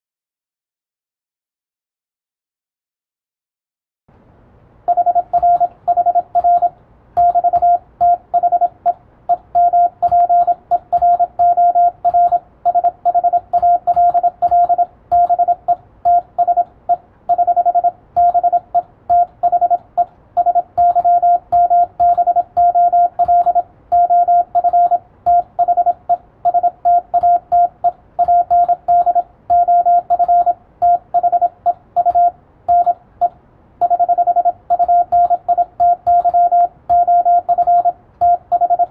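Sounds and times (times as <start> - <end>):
morse code tone: 4.9 - 38.9.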